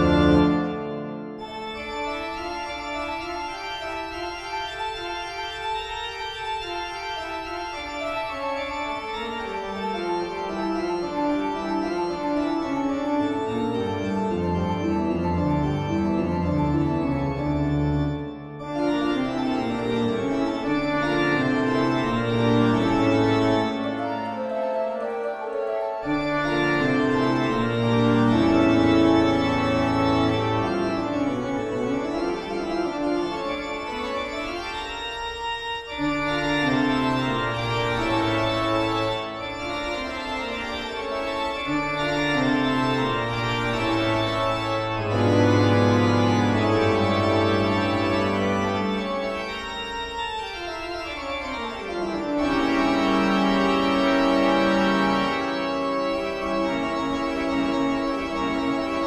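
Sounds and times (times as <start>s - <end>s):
horror organ music: 0.0s - 59.0s.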